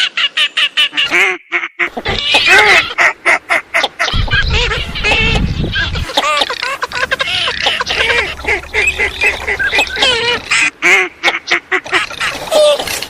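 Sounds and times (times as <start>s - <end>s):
ducks quacking: 0.9s - 12.7s.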